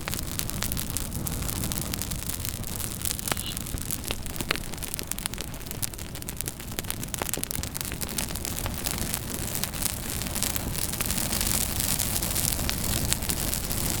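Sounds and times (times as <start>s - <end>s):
burning wood crackling and popping: 0.0s - 14.0s
campfire hissing: 0.0s - 14.0s.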